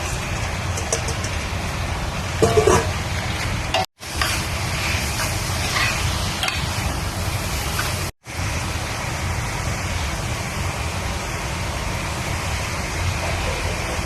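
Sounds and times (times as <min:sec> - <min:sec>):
food frying in a pan: 0:00.0 - 0:14.0.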